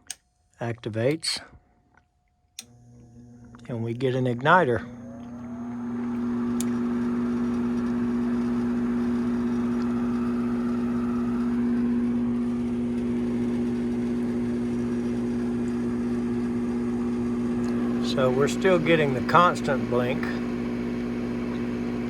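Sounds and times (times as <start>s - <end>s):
furnace motor humming: 2.6s - 22.0s.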